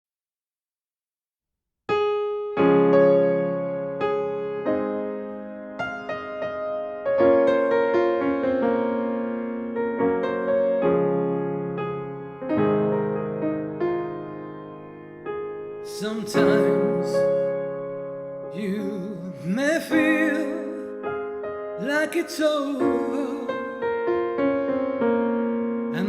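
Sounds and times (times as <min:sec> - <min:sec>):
solo piano slow chords: 0:01.9 - 0:26.0.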